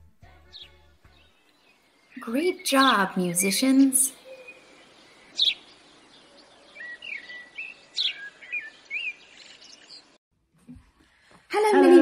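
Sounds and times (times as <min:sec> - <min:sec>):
birds chirping: 0:00.6 - 0:10.2.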